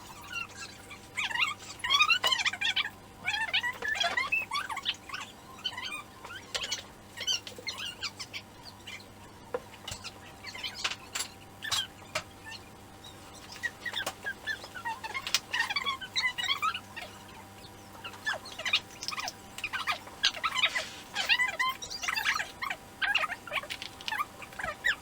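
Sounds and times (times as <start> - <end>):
bird chirping and chattering: 0.0 - 25.0.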